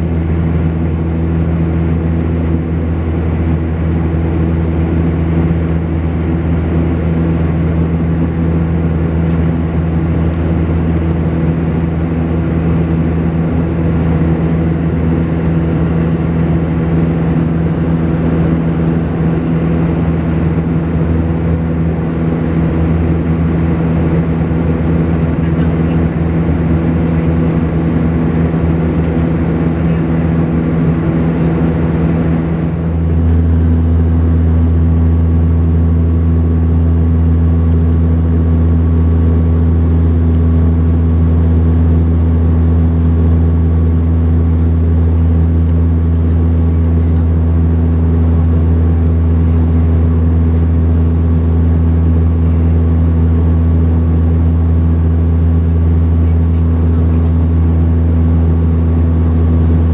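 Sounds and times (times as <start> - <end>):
turboprop cabin drone: 0.0 - 59.9.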